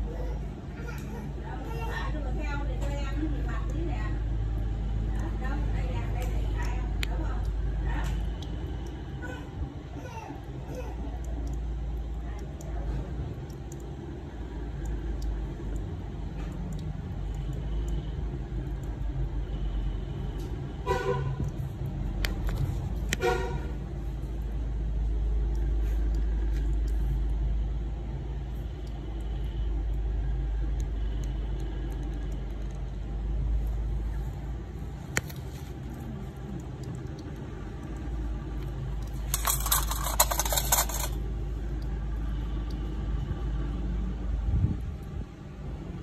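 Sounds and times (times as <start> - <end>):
street traffic rumble: 0.0 - 46.0.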